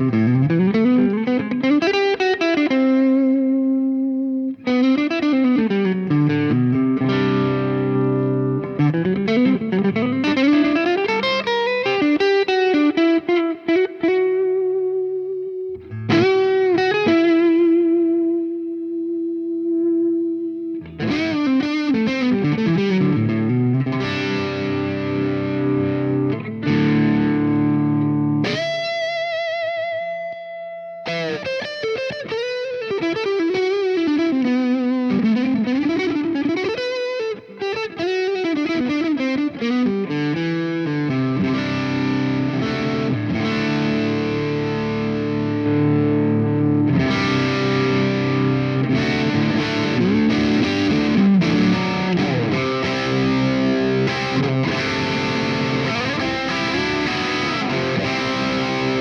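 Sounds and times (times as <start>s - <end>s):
overdriven electric guitar: 0.0s - 59.0s.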